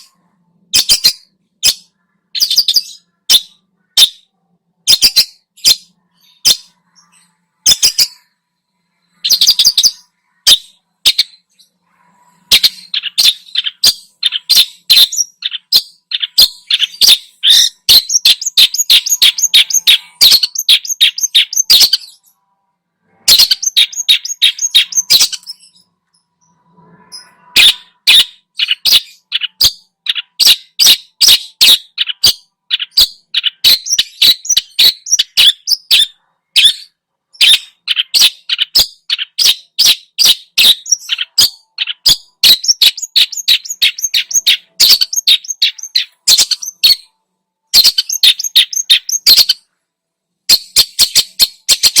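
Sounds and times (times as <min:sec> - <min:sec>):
shrike singing chattering song: 0:00.0 - 0:22.4, 0:23.1 - 0:49.7.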